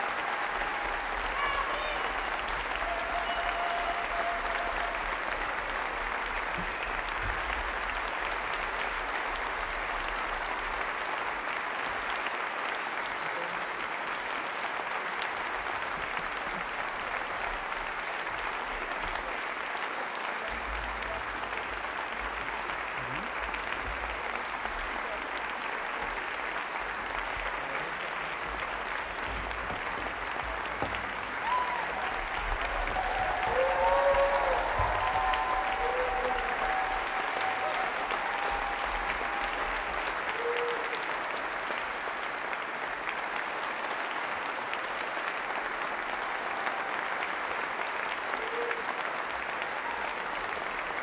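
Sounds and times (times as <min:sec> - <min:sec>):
audience applauding: 0:00.0 - 0:51.0.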